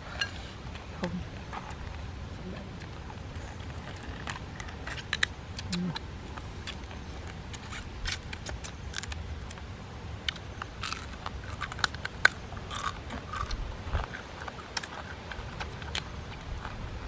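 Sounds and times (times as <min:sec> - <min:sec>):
chewing: 0:00.1 - 0:16.9
crab shells cracking: 0:02.8 - 0:16.8.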